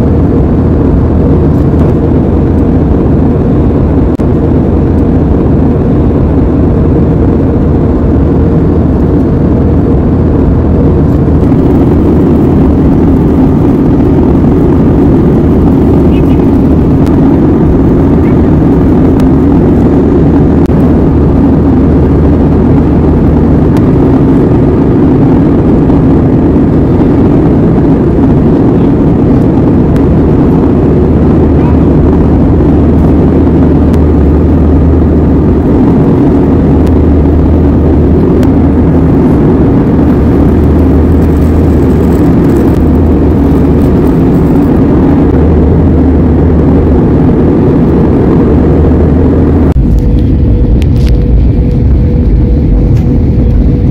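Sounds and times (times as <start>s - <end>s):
jet engine and airflow roar: 0.0s - 53.9s
low hum: 0.0s - 53.9s.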